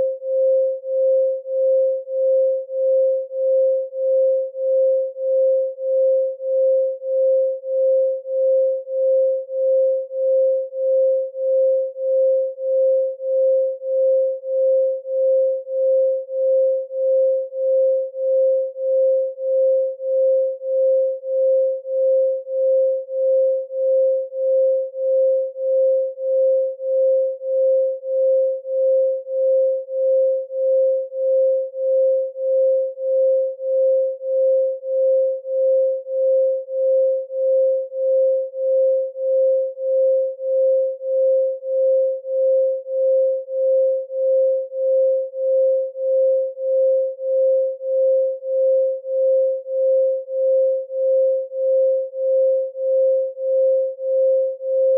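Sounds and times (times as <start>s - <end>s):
pulsing sine tone: 0.0s - 54.9s.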